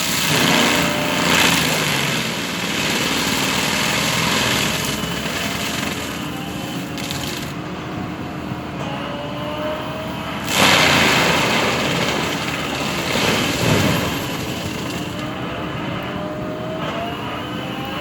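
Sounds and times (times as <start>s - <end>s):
mulcher grinding wood: 0.0s - 8.0s, 10.1s - 18.0s
skid steer running: 0.0s - 18.0s.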